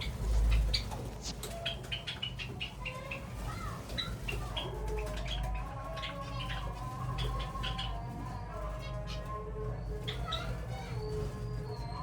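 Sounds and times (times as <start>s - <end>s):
doves wavering calls: 0.0s - 12.0s
sparrows chirping: 0.0s - 12.0s.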